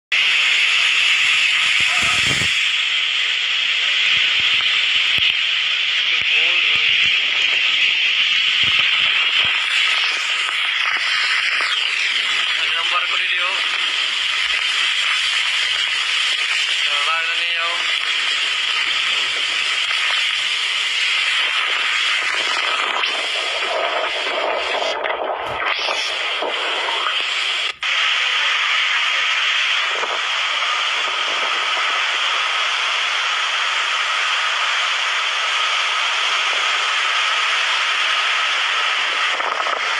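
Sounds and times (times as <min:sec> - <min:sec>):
wind and driving rain hiss: 0:00.1 - 0:39.9.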